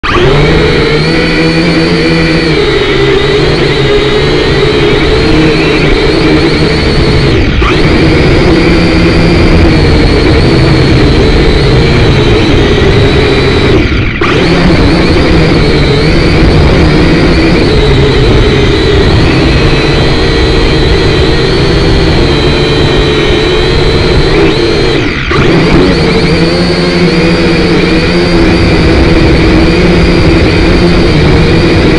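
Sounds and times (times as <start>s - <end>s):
quadcopter propellers whining: 0.0s - 31.9s.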